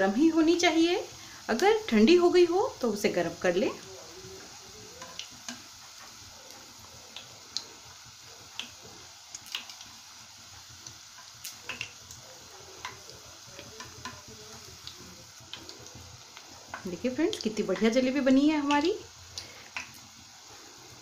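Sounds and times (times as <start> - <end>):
batter sizzling in hot fat: 0.0 - 21.0.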